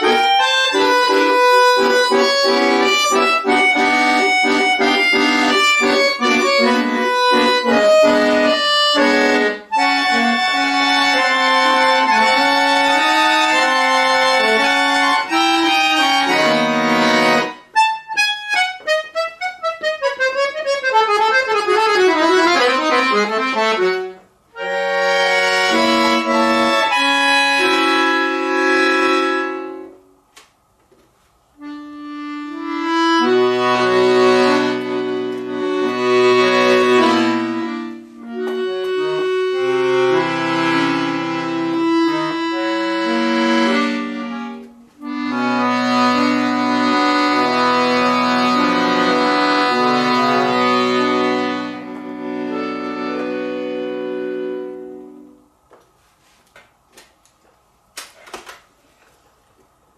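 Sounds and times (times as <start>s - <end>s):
button accordion playing: 0.0s - 30.1s, 31.6s - 55.6s.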